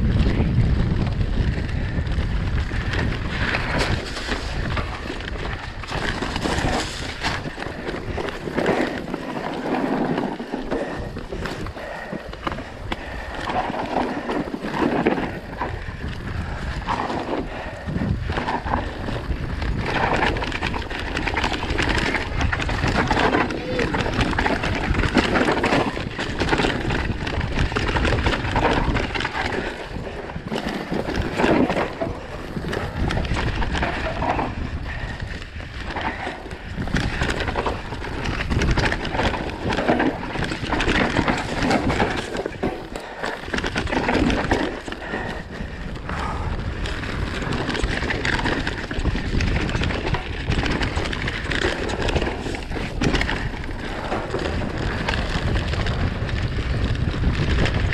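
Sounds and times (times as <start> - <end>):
bike clattering over rocks: 2.7 - 57.9.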